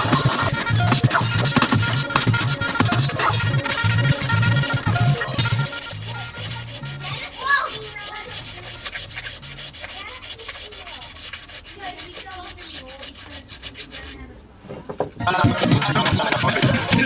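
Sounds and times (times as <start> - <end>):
sandpaper rubbing on wood: 0.0 - 14.3, 15.3 - 17.0.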